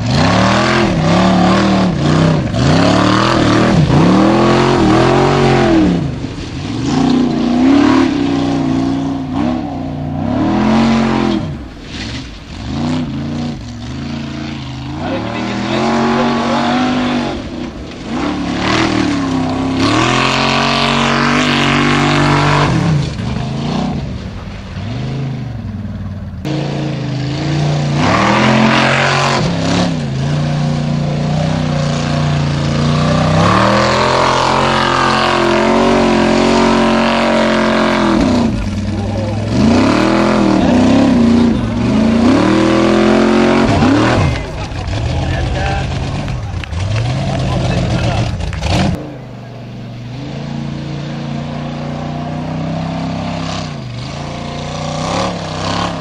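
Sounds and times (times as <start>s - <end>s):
engine revving hard: 0.0s - 24.2s, 26.4s - 56.0s.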